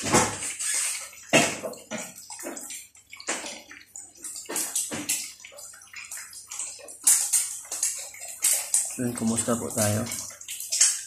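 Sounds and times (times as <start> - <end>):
chicken deep-frying in oil: 0.0 - 11.0
oil crackling and popping: 0.0 - 11.0.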